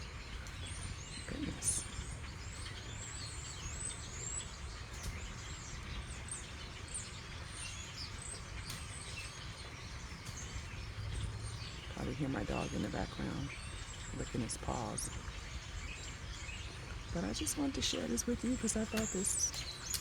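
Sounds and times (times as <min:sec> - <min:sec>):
flock of songbirds chirping: 0:00.0 - 0:20.0
steady low rumble: 0:00.0 - 0:20.0.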